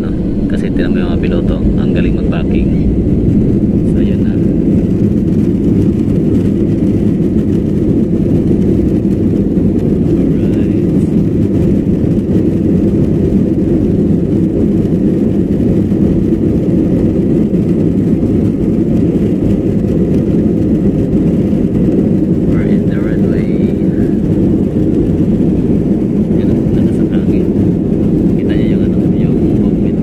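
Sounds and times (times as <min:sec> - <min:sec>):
jet engines and wheels rolling: 0:00.0 - 0:30.0.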